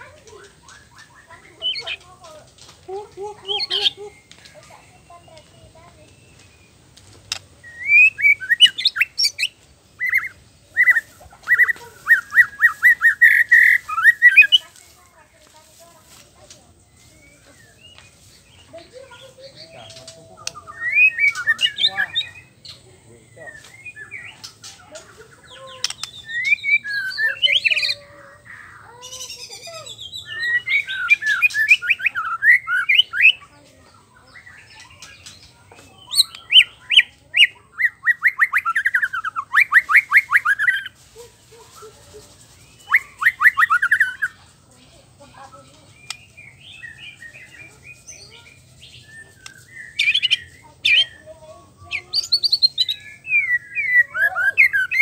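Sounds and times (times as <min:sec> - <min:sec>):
bird singing with trills: 0:00.0 - 0:55.0.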